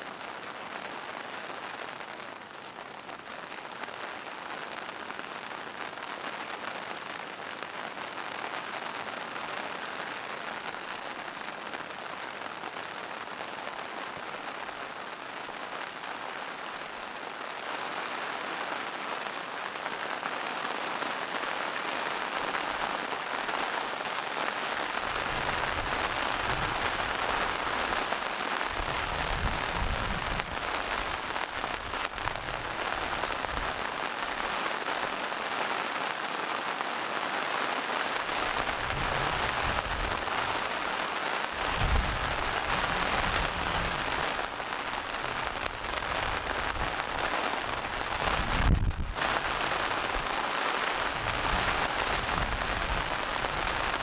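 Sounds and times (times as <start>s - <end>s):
rain falling in a forest: 0.0s - 54.0s.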